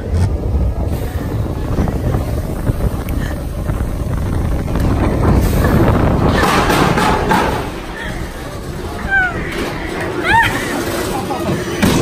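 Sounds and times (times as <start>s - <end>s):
roller coaster rumbling on track: 0.0s - 12.0s
wind buffeting microphone: 0.0s - 12.0s.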